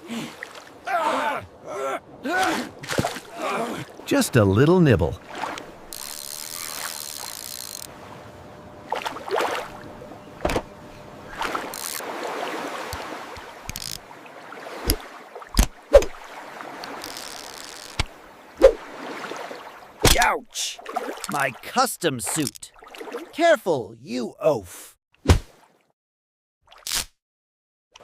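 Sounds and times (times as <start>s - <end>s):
water sloshing and splashing: 0.0s - 23.4s.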